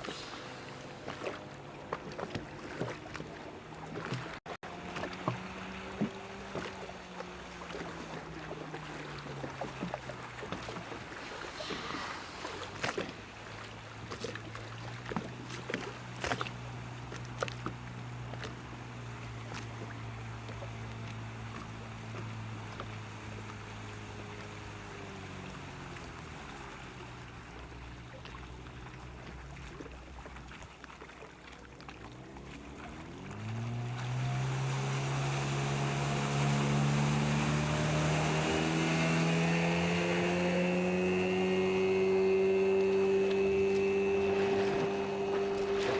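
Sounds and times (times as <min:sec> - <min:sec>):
hiss of water and wind: 0:00.0 - 0:30.8, 0:32.2 - 0:45.9
outboard motor running: 0:00.0 - 0:45.9.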